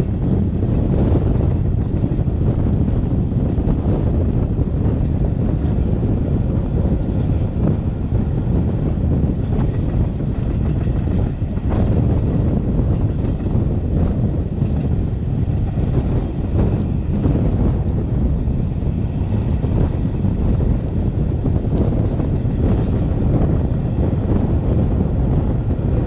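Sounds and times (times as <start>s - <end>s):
train rumbling on board: 0.0s - 26.0s
wind noise on microphone: 0.0s - 26.0s.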